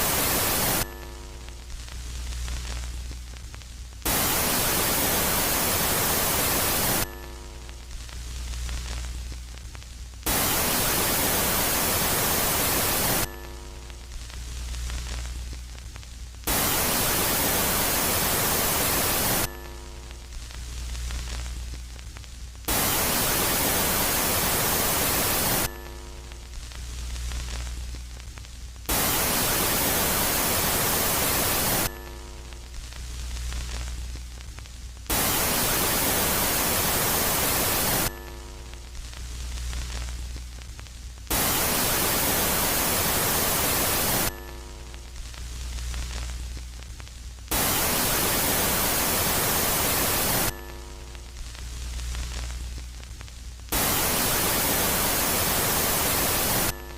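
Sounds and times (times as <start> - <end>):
loud static hiss: 0.0 - 56.9
low hum with faint tones: 0.0 - 56.9.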